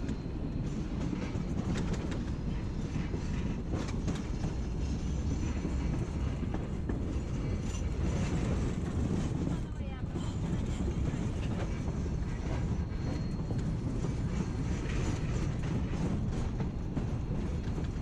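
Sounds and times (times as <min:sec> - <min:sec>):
train rumble: 0:00.0 - 0:18.0
wheels clicking on rails: 0:00.0 - 0:18.0.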